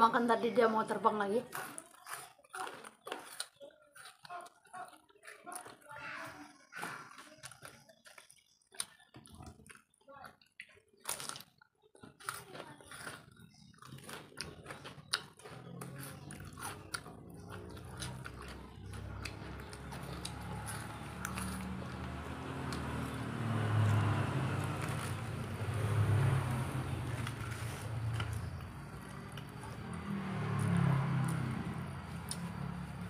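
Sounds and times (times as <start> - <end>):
crunching bites and chewing: 1.5 - 5.9, 7.0 - 33.0.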